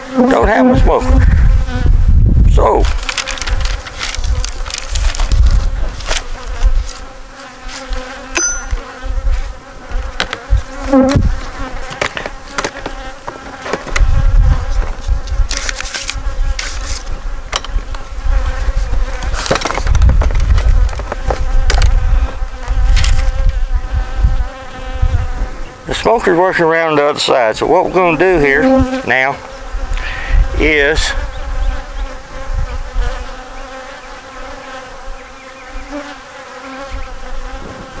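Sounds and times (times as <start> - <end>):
bees buzzing: 0.0 - 1.9, 2.9 - 38.0.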